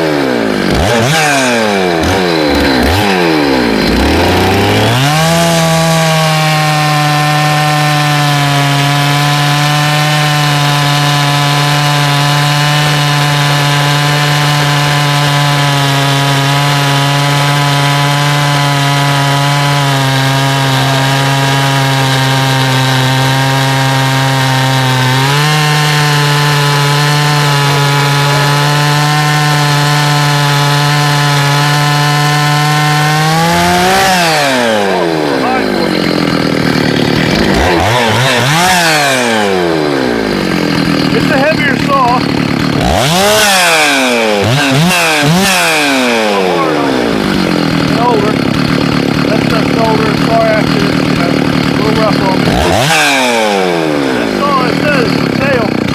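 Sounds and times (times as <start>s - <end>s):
chainsaw cutting log: 0.0s - 55.9s.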